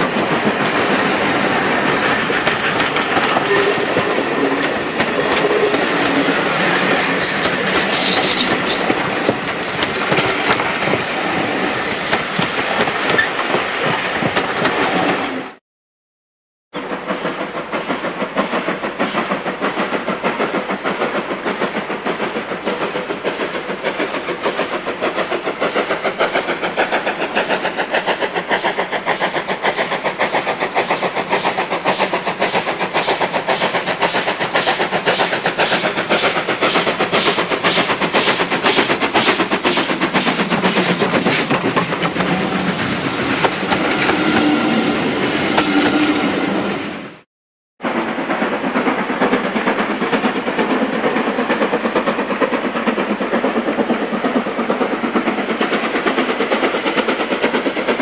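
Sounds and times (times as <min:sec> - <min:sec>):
steam locomotive exhaust beating: 0:00.0 - 0:14.8, 0:16.8 - 0:47.2, 0:47.8 - 0:58.0
train coaches clattering past: 0:00.0 - 0:15.6, 0:16.8 - 0:47.2, 0:47.8 - 0:58.0.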